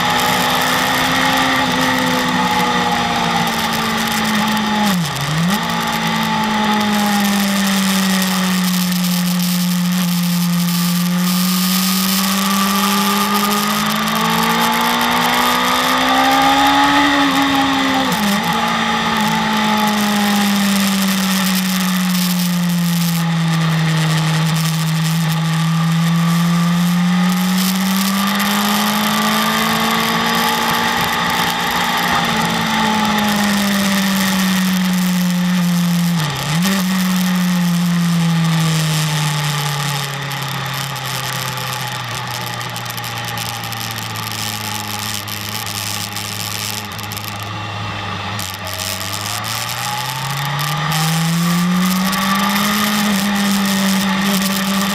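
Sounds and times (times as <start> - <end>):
motorcycle engine at speed: 0.0 - 54.9.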